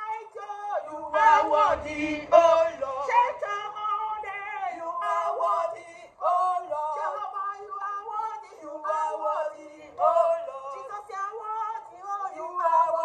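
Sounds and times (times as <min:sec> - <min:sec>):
women singing worship song: 0:00.0 - 0:13.0.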